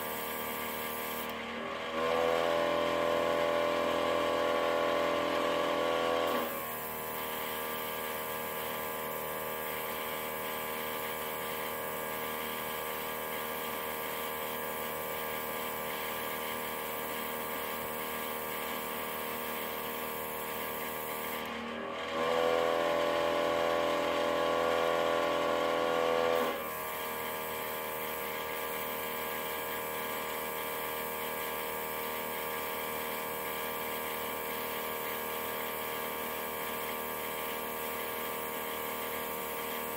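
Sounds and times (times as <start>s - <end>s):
airbrush compressor humming: 0.0s - 39.9s.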